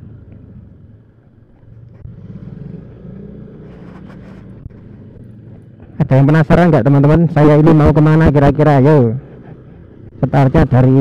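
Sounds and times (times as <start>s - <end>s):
road rumble: 0.0s - 11.0s
scooter engine running: 0.0s - 11.0s.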